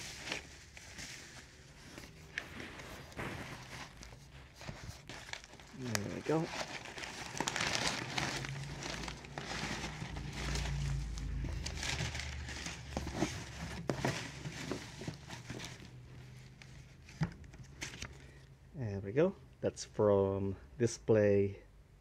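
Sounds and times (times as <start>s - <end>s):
paper and bubble wrap rustling: 0.0s - 18.3s.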